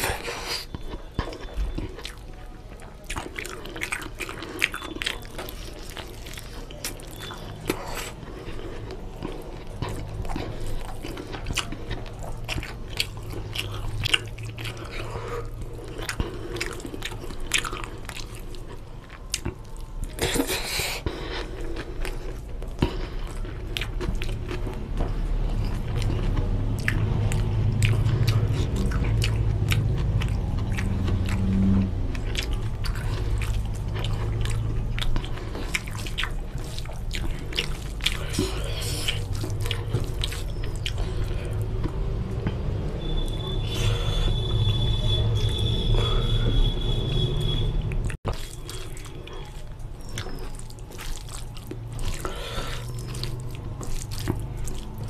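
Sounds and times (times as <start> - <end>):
chewing and smacking: 0.0 - 55.0.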